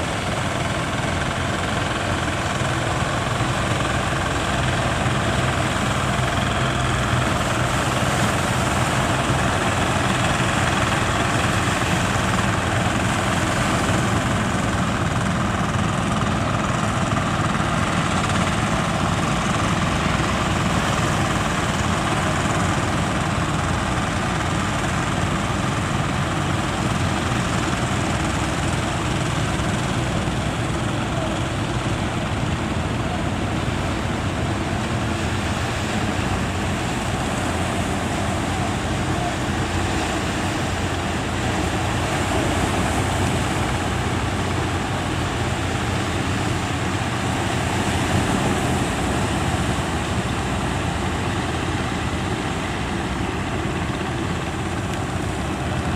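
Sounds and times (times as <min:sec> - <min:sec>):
boat engine running: 0:00.0 - 0:55.9
surf rushing: 0:00.0 - 0:55.9
wind: 0:00.0 - 0:55.9.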